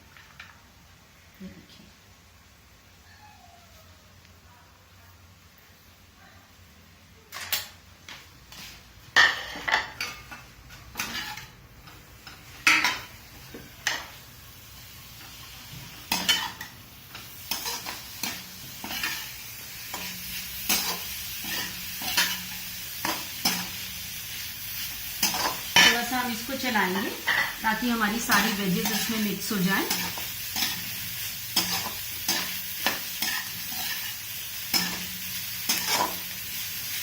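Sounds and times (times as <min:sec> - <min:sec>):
frying sizzle: 0:05.4 - 0:37.0.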